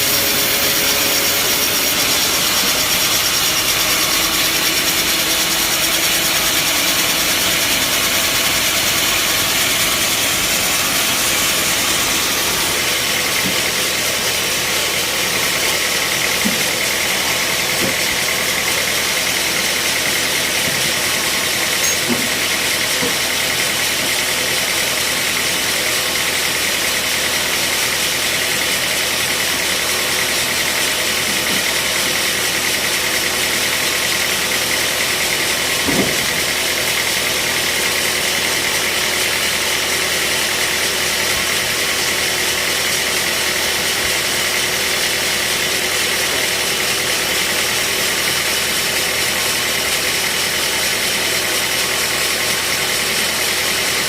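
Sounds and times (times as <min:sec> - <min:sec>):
bandsaw sawmill running: 0:00.0 - 0:54.0.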